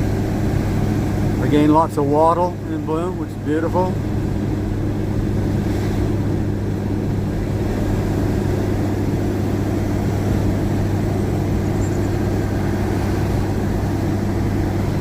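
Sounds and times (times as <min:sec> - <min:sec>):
engine droning under load: 0:00.0 - 0:15.0
road noise: 0:00.0 - 0:15.0.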